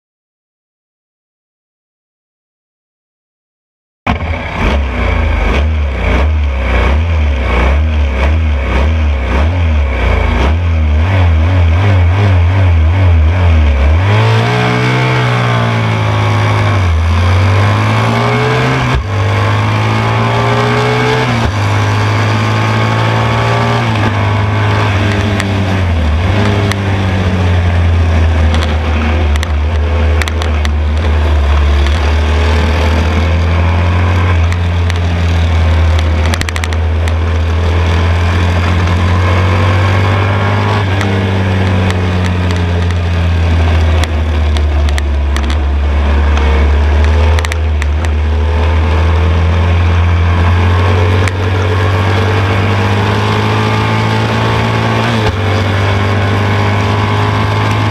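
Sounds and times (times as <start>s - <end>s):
motorcycle engine racing: 4.1s - 57.9s.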